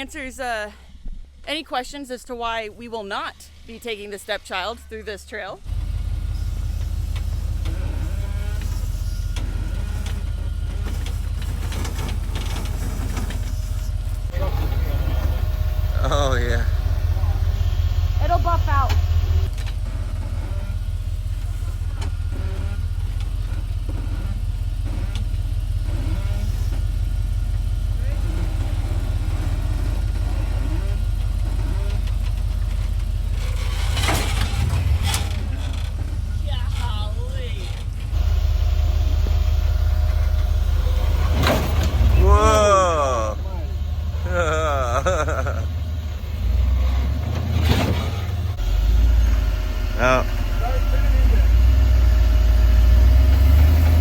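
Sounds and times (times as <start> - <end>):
engine running at low revs: 5.6 - 54.0.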